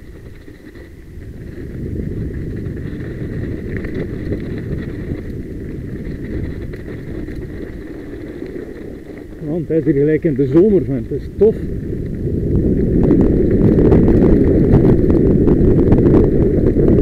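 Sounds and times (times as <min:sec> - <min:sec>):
bike rattling: 0:00.0 - 0:17.0
tyres rumbling over dirt: 0:00.0 - 0:17.0
wind buffeting microphone: 0:00.0 - 0:17.0.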